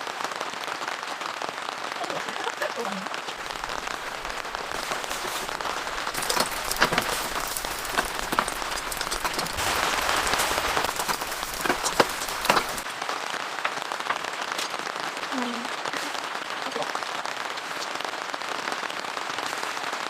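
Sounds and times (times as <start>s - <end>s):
raindrops ticking on a surface: 0.0s - 20.0s
steady rain: 0.0s - 20.0s.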